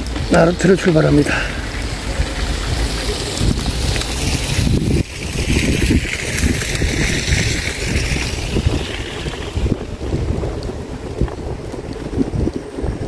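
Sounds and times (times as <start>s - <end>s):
wind buffeting microphone: 0.0s - 13.0s
wind hiss: 0.0s - 13.0s.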